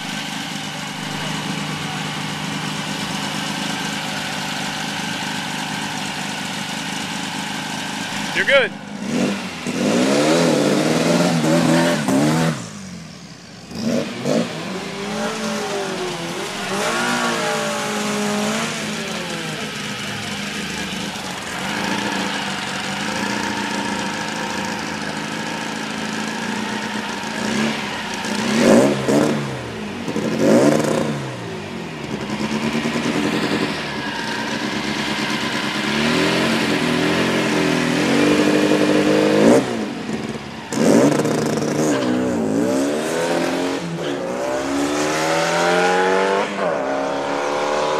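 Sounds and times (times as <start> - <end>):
dune buggy engine revving: 0.0 - 47.9.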